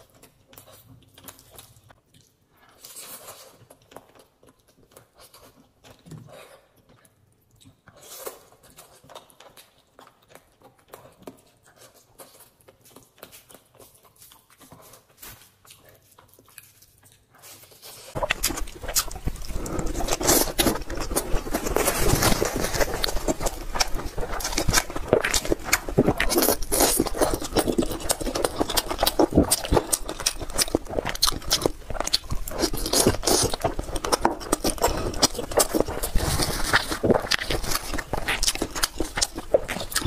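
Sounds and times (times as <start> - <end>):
loud wet crackly chewing: 0.0 - 40.0
soft chewing and mouth sounds: 0.0 - 40.0.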